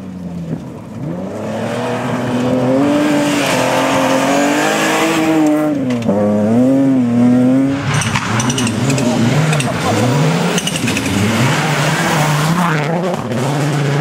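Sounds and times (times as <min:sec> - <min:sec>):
rally car engine at high revs: 0:00.4 - 0:14.0.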